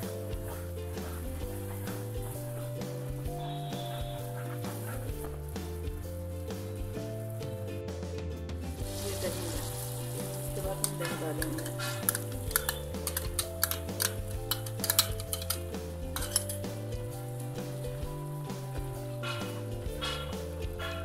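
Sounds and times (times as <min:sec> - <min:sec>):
spices sizzling in oil: 0:00.0 - 0:08.0, 0:08.6 - 0:21.0
background music with held notes: 0:00.0 - 0:21.0.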